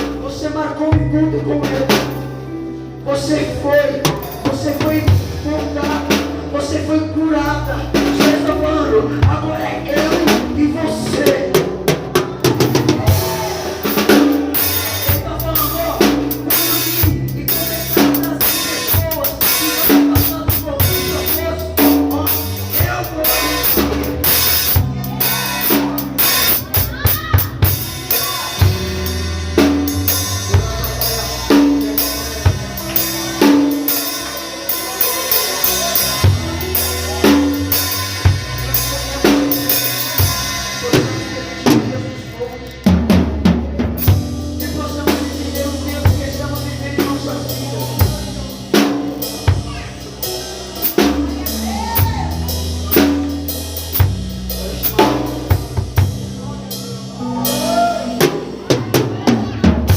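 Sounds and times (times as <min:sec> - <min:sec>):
instrumental band music with drums: 0:00.0 - 0:02.5, 0:03.1 - 0:59.9.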